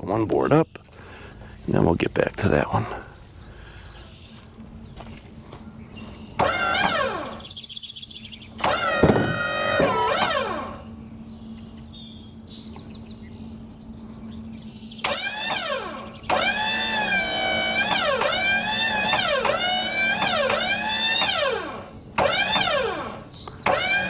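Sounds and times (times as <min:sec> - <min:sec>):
steady low hum: 0:00.0 - 0:24.0
whining hydraulic pump: 0:04.4 - 0:24.0.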